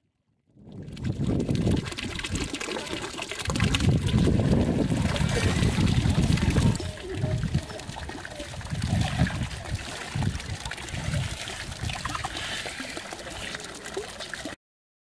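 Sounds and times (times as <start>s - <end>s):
dull low splashes: 0.6s - 14.5s
water sloshing and trickling: 0.6s - 14.6s.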